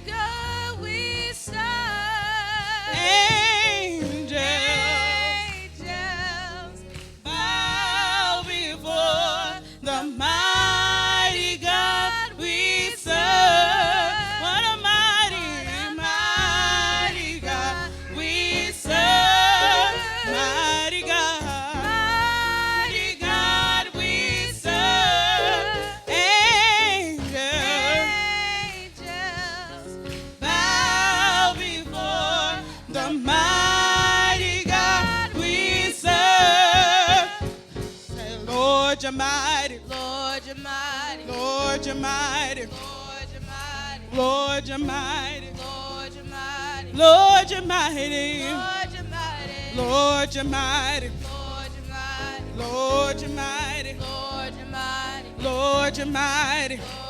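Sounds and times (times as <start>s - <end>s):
gospel singing: 0.0s - 57.0s
low instrumental accompaniment: 0.0s - 57.0s.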